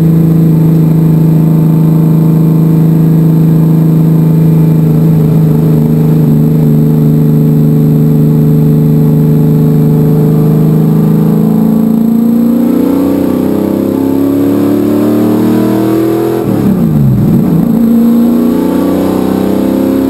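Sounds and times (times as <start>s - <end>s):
race car engine droning: 0.0s - 20.0s.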